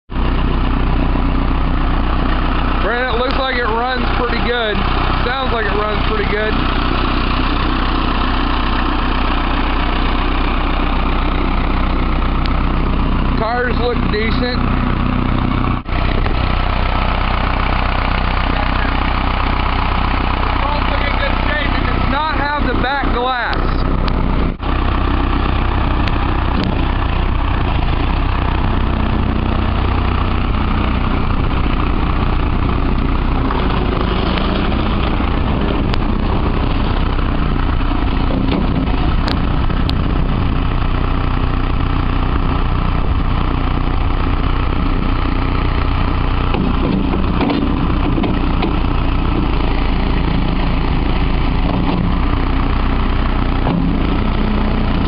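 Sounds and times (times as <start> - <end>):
diesel engine running: 0.1 - 55.0.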